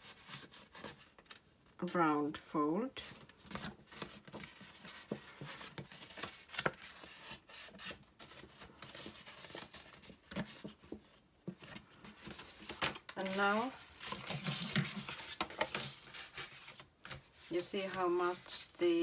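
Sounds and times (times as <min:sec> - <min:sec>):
paper rustling and crinkling: 0:00.0 - 0:01.5, 0:03.0 - 0:19.0.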